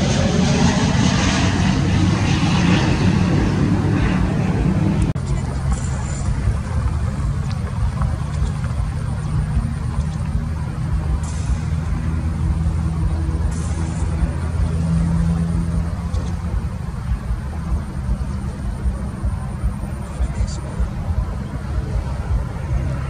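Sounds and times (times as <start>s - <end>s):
distant airliner rumble: 0.0s - 23.0s.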